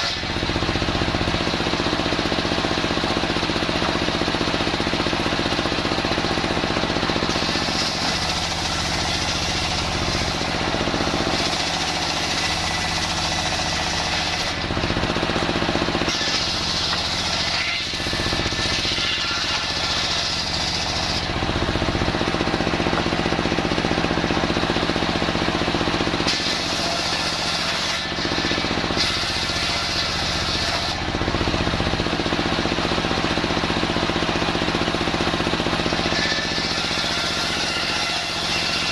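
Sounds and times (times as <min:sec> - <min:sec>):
circular sawmill running: 0:00.0 - 0:38.9
saw blade cutting timber: 0:00.0 - 0:38.9.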